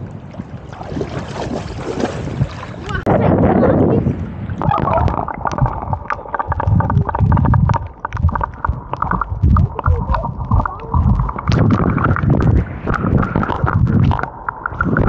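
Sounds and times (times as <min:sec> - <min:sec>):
shallow sea water sloshing: 0:00.0 - 0:03.1, 0:04.0 - 0:15.0
wind buffeting microphone: 0:00.0 - 0:15.0.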